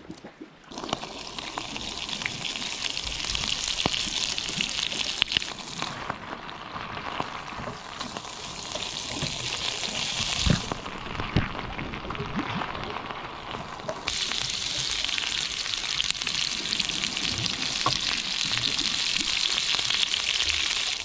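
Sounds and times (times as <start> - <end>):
food sizzling in a pan: 0.7 - 11.0, 12.5 - 21.0.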